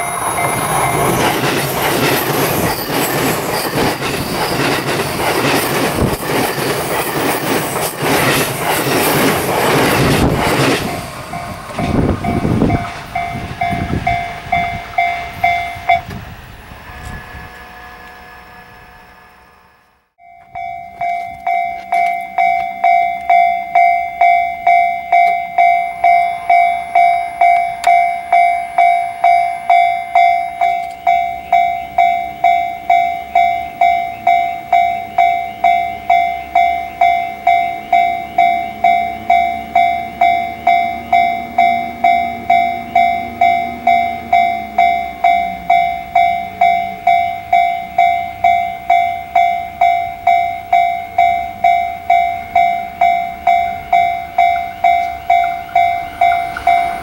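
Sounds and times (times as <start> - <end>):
railroad crossing bell ringing: 0.0 - 19.0, 20.2 - 57.0
train rumble: 0.0 - 57.0.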